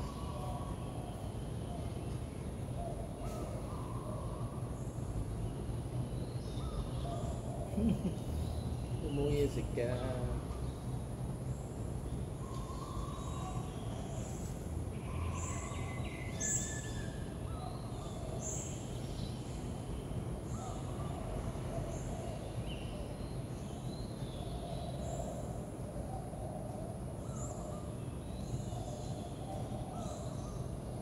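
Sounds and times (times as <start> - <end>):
steady low background noise: 0.0 - 31.0.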